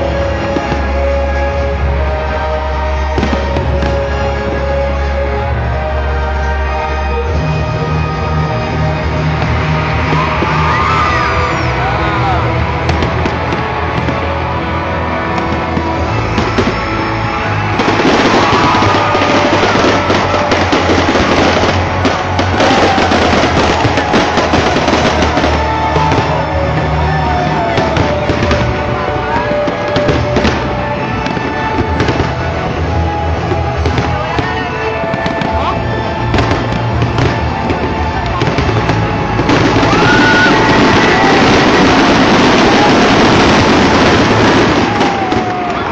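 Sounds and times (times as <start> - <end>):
fireworks popping and crackling: 0.0 - 45.9
loud show music: 0.0 - 45.9.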